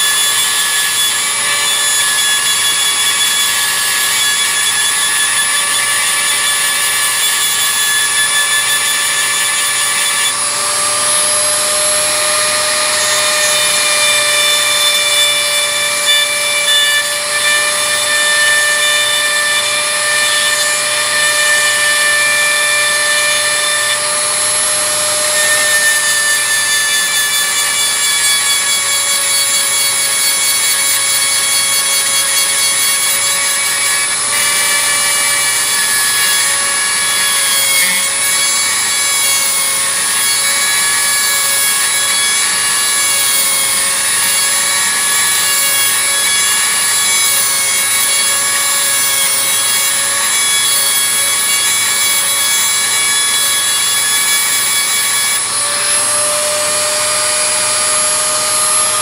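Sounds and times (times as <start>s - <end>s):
rotary tool grinding steel: 0.0s - 59.0s.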